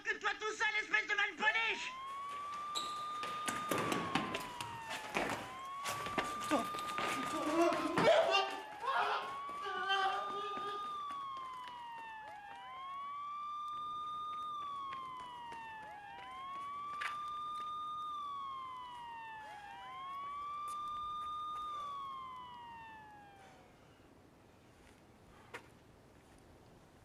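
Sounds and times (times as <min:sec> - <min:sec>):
wailing siren: 0:01.5 - 0:25.2.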